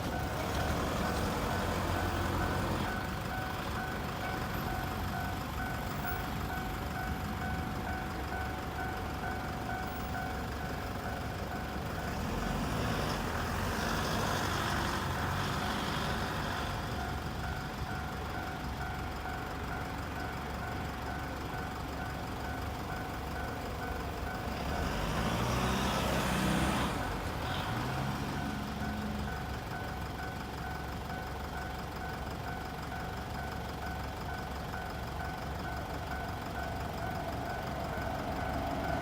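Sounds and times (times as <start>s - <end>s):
level crossing warning bell: 0.0s - 39.0s
passing train rumble: 0.0s - 39.0s.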